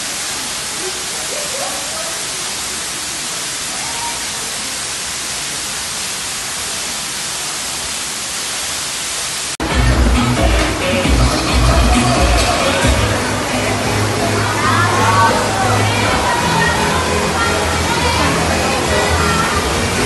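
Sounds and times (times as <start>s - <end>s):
rainwater pouring through ceiling: 0.0s - 20.0s.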